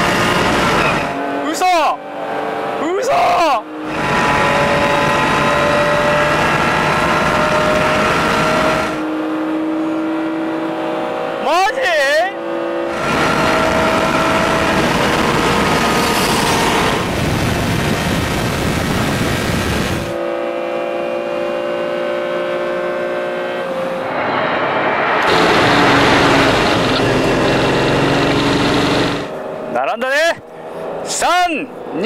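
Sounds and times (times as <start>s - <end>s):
car engine at speed: 0.0s - 32.0s.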